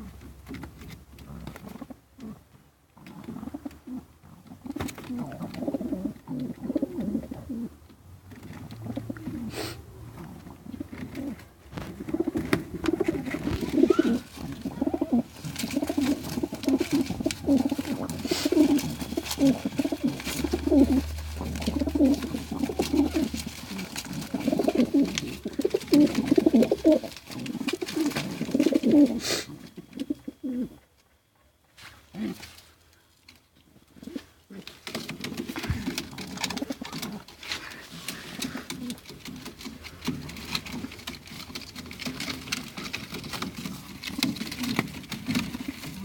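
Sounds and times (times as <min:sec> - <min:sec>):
pigeons cooing: 0:00.0 - 0:30.8, 0:33.8 - 0:46.0.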